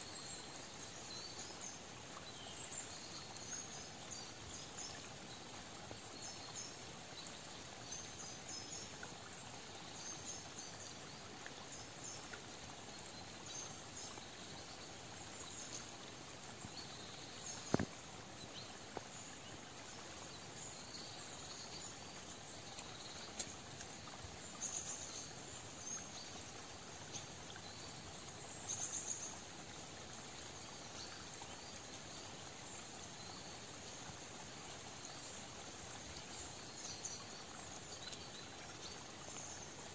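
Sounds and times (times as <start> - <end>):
steady soft hiss: 0.0 - 39.9.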